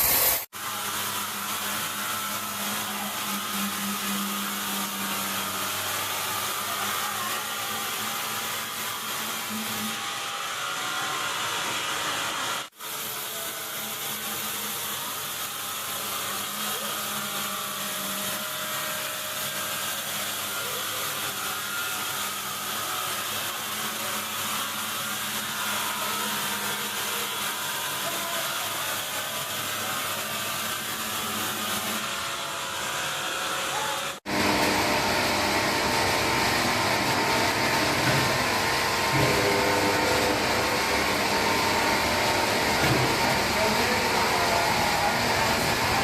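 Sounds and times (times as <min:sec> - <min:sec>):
woodworking machine running: 0:00.0 - 0:46.0.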